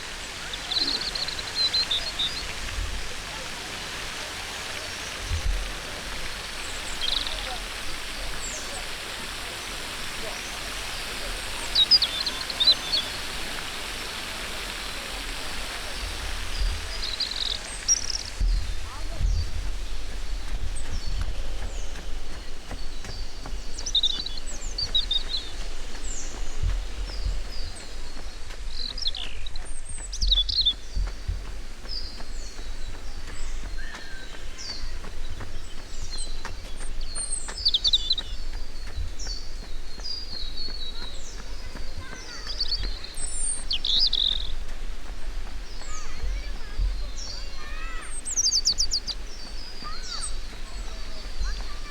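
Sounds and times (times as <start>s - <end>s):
birds singing: 0.0s - 51.9s
steady outdoor hiss: 0.0s - 51.9s.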